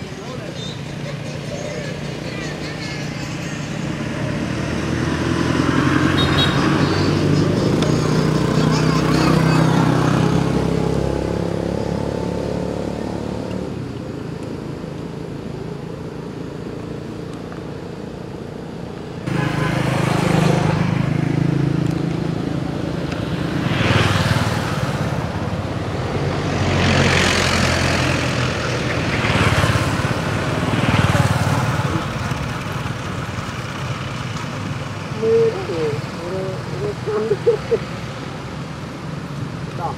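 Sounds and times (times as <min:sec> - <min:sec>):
steady engine hum: 0:00.0 - 0:39.9
vehicles passing: 0:00.0 - 0:39.9.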